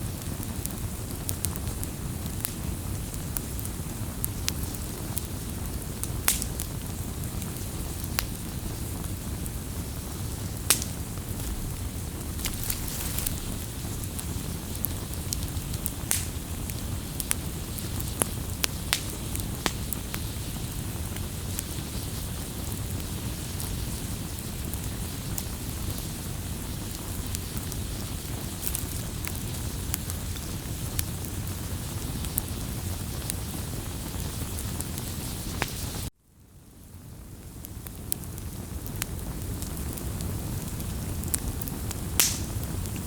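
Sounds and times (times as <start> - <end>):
campfire crackling: 0.0 - 43.0
burning wood popping and snapping: 0.2 - 36.1, 37.9 - 43.0.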